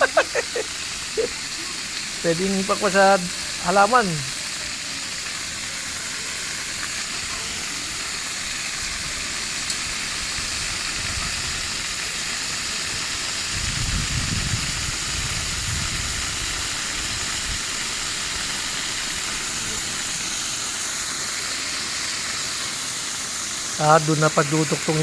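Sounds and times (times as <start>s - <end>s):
water rushing from a pipe: 0.0s - 25.0s.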